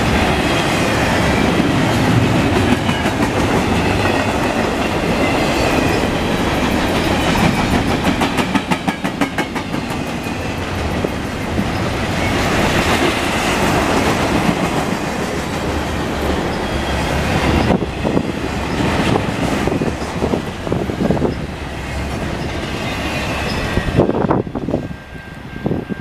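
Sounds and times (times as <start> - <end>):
clickety-clack over rail joints: 0.0 - 24.9
freight train wheels rumbling: 0.0 - 26.0.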